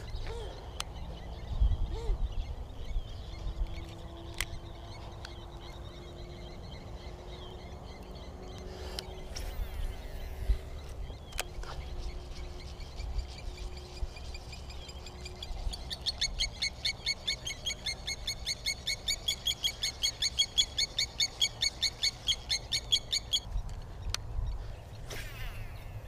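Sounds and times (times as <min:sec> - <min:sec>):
bird chirping rapidly: 0:00.0 - 0:23.6.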